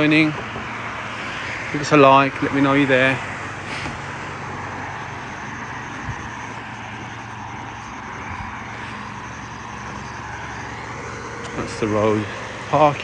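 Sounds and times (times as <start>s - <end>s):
jet airliner flying past: 0.0s - 13.0s.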